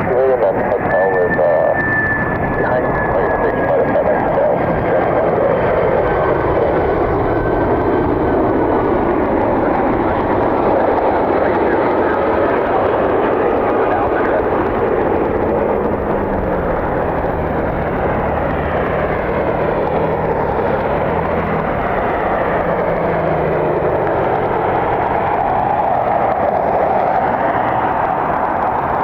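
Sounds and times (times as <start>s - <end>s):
jet engine rushing: 0.0s - 29.0s.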